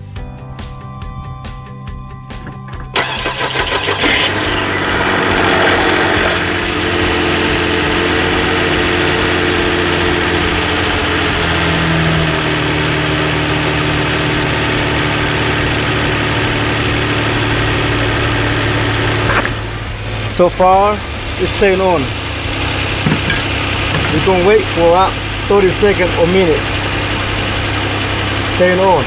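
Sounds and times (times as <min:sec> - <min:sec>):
car engine starting and idling: 0:02.3 - 0:29.0.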